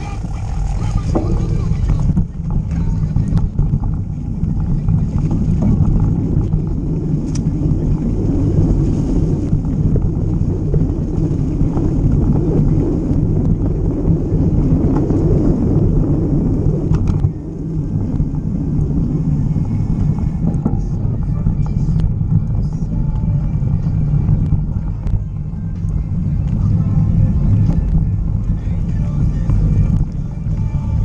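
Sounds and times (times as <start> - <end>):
tyres rumbling on dirt: 0.0 - 31.0
wind on microphone: 0.0 - 31.0.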